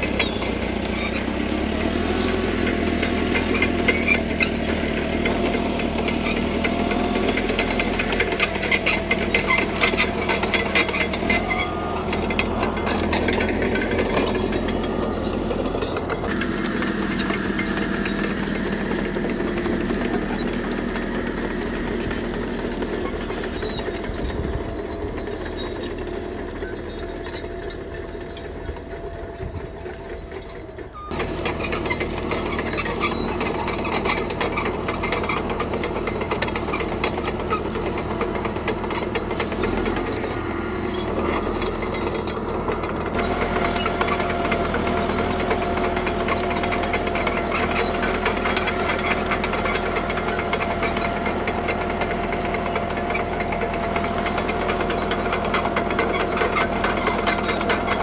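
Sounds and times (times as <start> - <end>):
bulldozer diesel engine under load: 0.0 - 58.0
track clatter pushing gravel: 0.0 - 58.0.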